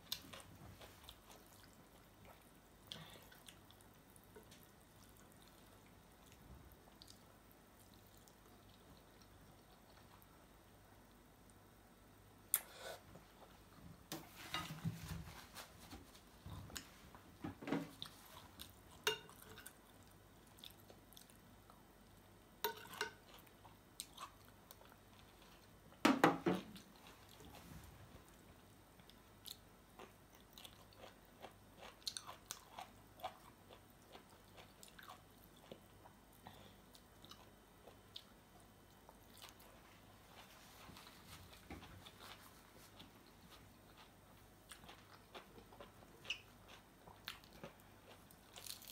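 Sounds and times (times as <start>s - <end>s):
person chewing and crunching food: 0.0s - 11.6s, 18.0s - 26.0s, 26.7s - 48.9s.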